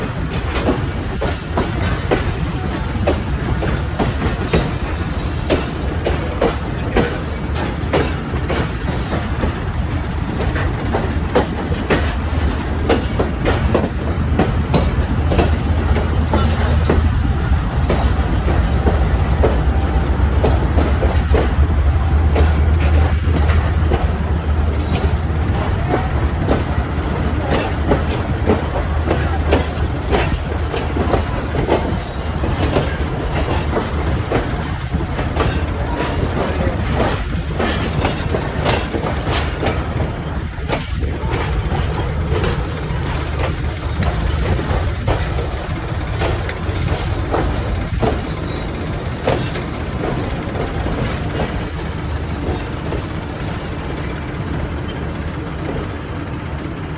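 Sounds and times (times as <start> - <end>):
train rumbling on track: 0.0 - 56.9
wheels clicking over rail joints: 0.0 - 56.9.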